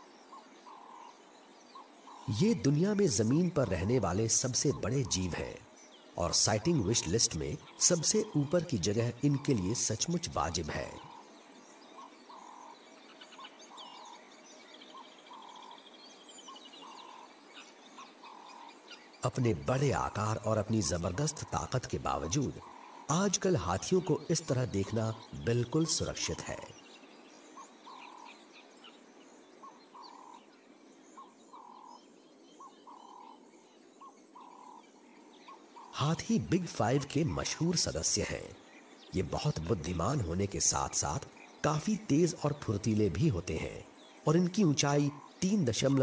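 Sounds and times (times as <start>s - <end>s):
rapid bird trill: 0.0s - 46.0s.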